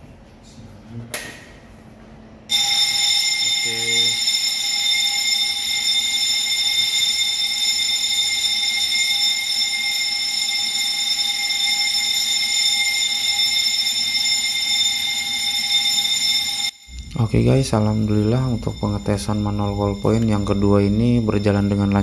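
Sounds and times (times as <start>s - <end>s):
fire alarm ringing: 2.5s - 22.0s.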